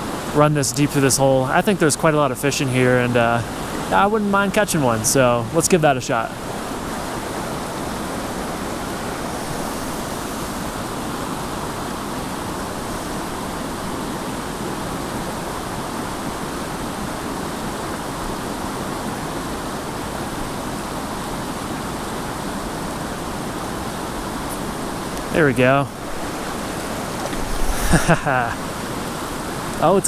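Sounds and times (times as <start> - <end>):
creek water flowing: 0.0 - 30.0.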